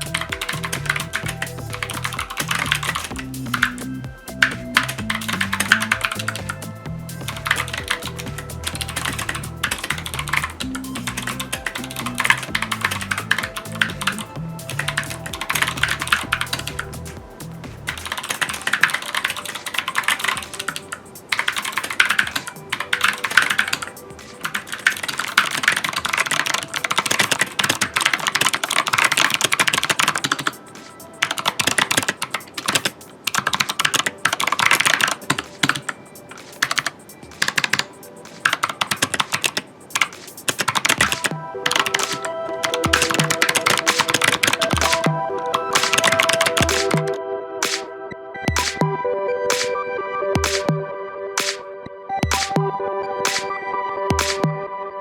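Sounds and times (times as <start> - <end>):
mechanical keyboard typing: 0.0 - 16.8, 17.9 - 47.8.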